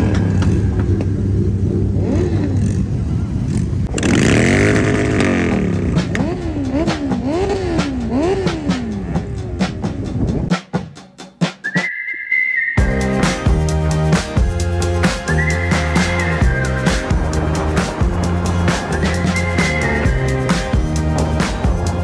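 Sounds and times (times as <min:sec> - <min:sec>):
motorcycle engine revving: 0:00.0 - 0:10.5, 0:13.2 - 0:22.0
motorcycle engines idling: 0:00.0 - 0:10.5, 0:13.6 - 0:22.0.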